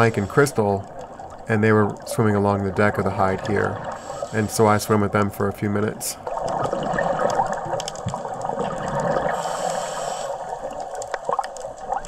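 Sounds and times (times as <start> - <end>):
underwater regulator bubbling: 0.0 - 12.0.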